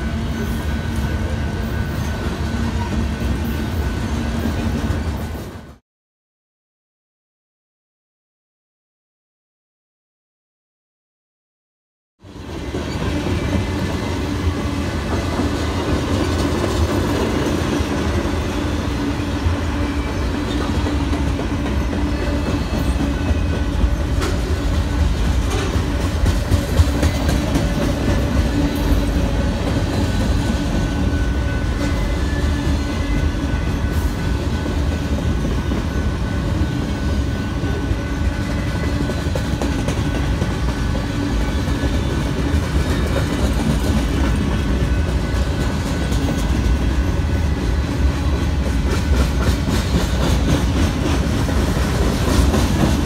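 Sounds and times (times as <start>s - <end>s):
steel wheels rumbling on rail: 0.0s - 5.8s, 12.2s - 53.0s.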